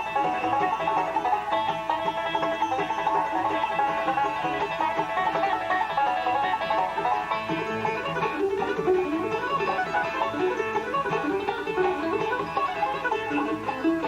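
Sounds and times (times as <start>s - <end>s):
banjo: 0.0s - 14.0s
guitar picking: 0.0s - 14.0s
mandolin: 0.0s - 14.0s
upright bass: 0.0s - 14.0s.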